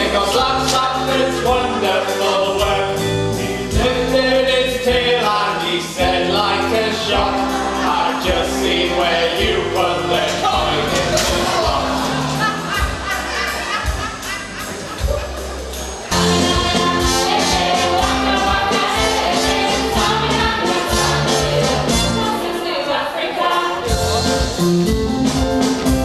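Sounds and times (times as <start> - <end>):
group of voices singing: 0.0 - 3.1, 3.7 - 13.4, 16.1 - 24.2
backing music with steady beat: 0.0 - 26.0.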